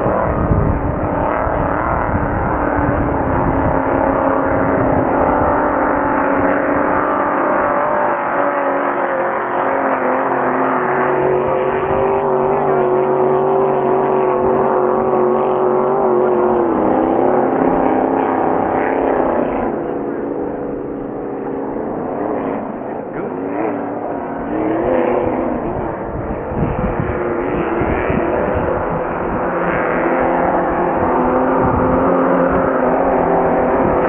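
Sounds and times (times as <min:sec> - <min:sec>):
racing boat engines roaring: 0:00.0 - 0:34.0.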